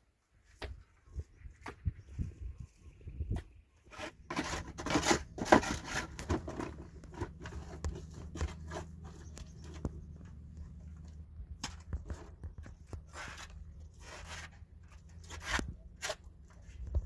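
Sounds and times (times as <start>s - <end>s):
hand scraping wet mortar: 3.3s - 17.0s.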